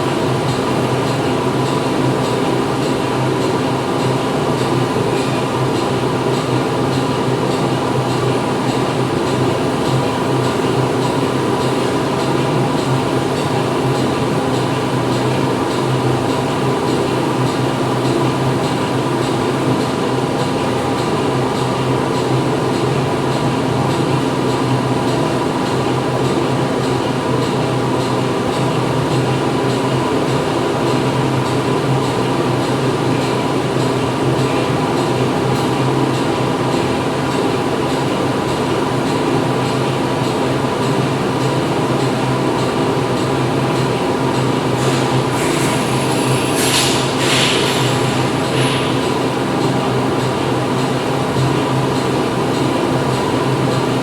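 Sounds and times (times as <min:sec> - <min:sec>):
factory machinery humming: 0:00.0 - 0:54.0.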